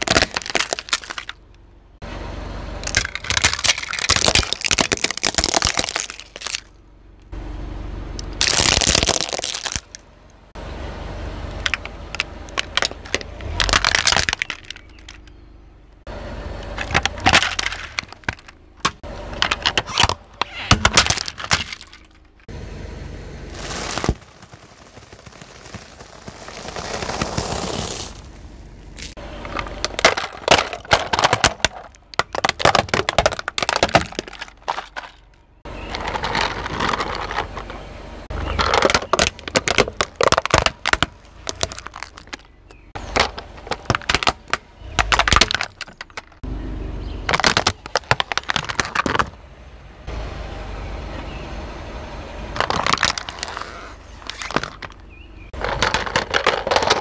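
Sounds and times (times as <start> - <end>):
plastic toys cracking under tyre: 0.0 - 1.5, 2.8 - 6.8, 8.2 - 10.0, 11.6 - 15.4, 16.7 - 22.4, 23.5 - 46.4, 47.2 - 49.4, 52.6 - 57.0.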